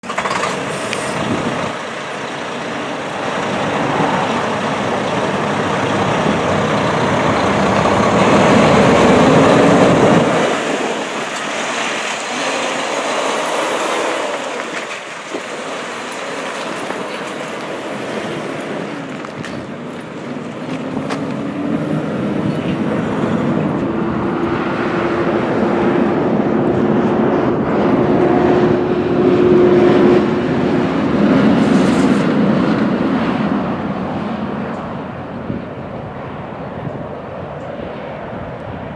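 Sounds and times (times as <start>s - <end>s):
diesel truck engine running: 0.0s - 37.3s.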